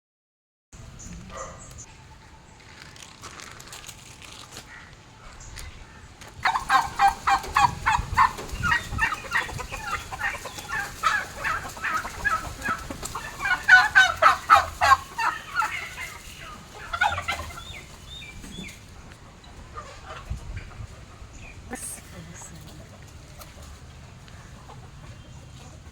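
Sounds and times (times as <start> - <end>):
hens and turkey clucking: 4.7 - 25.9.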